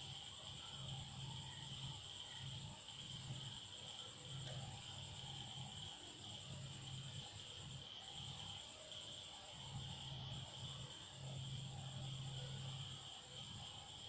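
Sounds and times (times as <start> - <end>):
high-pitched insect trilling: 0.0 - 14.0.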